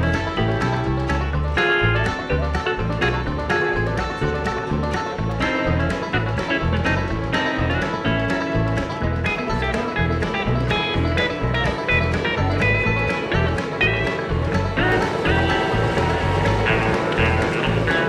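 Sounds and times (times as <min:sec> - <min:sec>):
country bluegrass music: 0:00.0 - 0:18.0.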